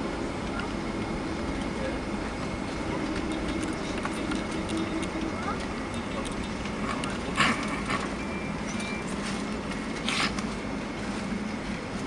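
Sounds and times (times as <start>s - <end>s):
air rush in cabin: 0.0s - 12.0s
aircraft engines idling: 0.0s - 12.0s.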